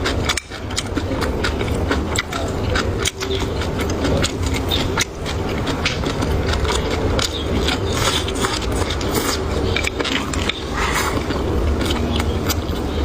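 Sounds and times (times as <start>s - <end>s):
chewing and biting food: 0.0s - 13.0s
steady low hum: 0.0s - 13.0s.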